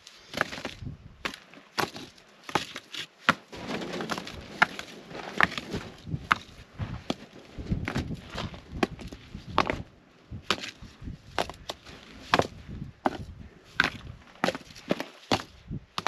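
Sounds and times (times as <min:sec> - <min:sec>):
rocks knocking together: 0:00.3 - 0:16.0.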